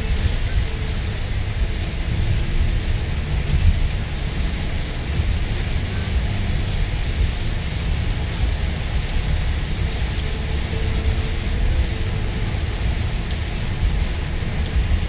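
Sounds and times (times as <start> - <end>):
heavy rain on car windscreen: 0.0 - 15.0
tyre and road rumble: 0.0 - 15.0.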